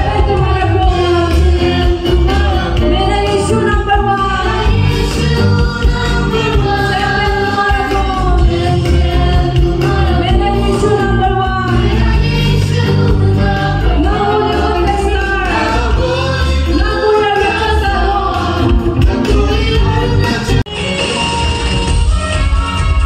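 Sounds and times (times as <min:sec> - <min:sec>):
heavy pulsing bass line: 0:00.0 - 0:20.7
group of voices singing: 0:00.0 - 0:21.3.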